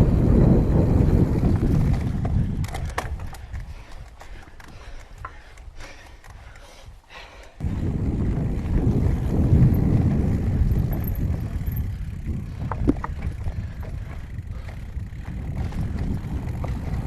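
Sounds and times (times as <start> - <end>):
bike tyres on trail: 0.0 - 17.0
wind buffeting microphone: 0.0 - 17.0
bike rattling clicks: 0.3 - 17.0.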